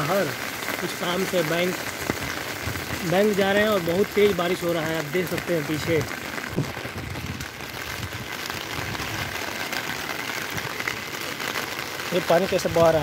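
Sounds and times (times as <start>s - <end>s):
heavy rain on a street: 0.0s - 13.0s.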